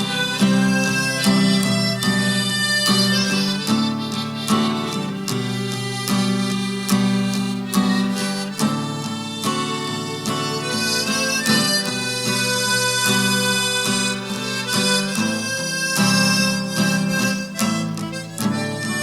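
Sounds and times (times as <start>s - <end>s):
harmonica playing slow tune: 0.0s - 19.0s.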